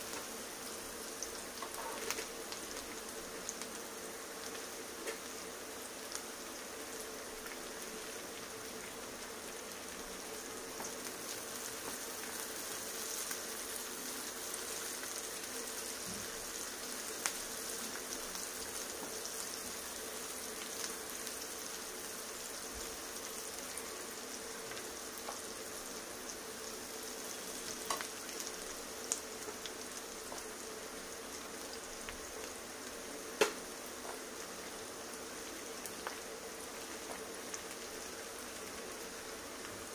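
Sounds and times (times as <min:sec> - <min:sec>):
vegetables sizzling in oil: 0:00.0 - 0:39.9.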